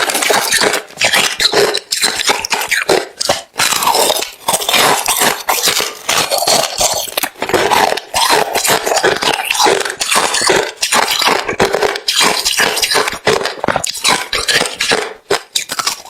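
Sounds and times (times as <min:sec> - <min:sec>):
person crunching ice: 0:00.0 - 0:16.0.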